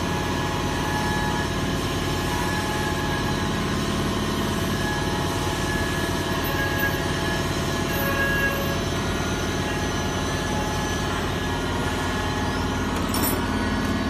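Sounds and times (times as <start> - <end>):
metalworking machinery running: 0.0 - 14.0.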